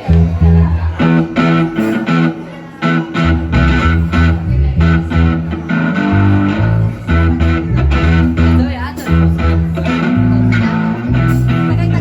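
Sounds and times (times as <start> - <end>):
low bass line: 0.0 - 1.9, 3.1 - 12.0
plucked guitar music: 0.0 - 12.0.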